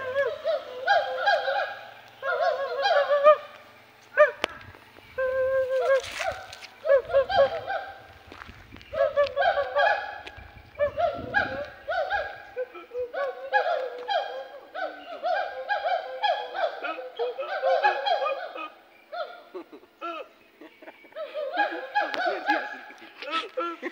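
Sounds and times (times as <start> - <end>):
gibbons whooping: 0.0 - 23.9.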